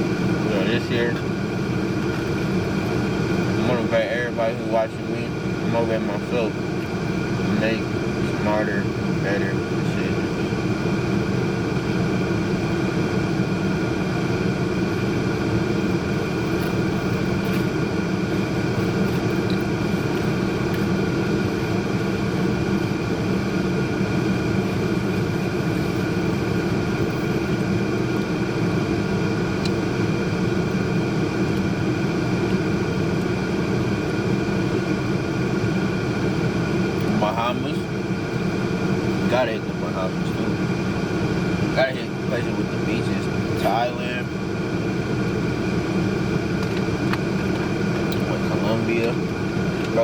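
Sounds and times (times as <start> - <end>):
steady mechanical drone: 0.0 - 50.0.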